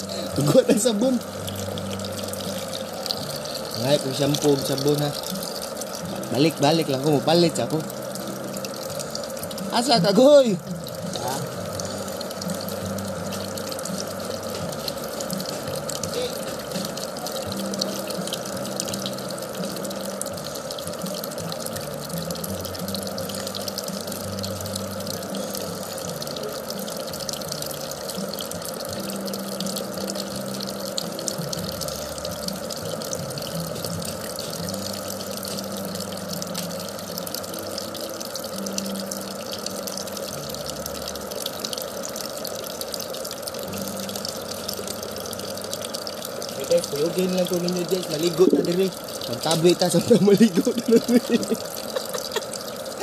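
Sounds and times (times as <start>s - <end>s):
falling water splashing: 0.0s - 53.0s.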